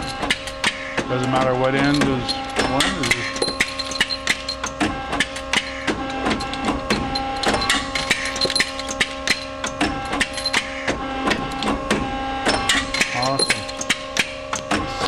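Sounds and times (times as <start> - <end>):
metal clicks and knocks: 0.0 - 14.9
machine hum: 0.0 - 15.0.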